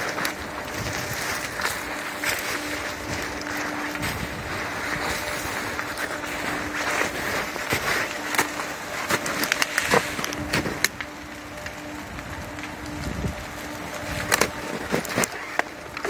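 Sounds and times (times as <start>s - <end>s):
footsteps crunching through snow: 0.0s - 15.6s
twigs brushing and snapping: 0.0s - 16.0s.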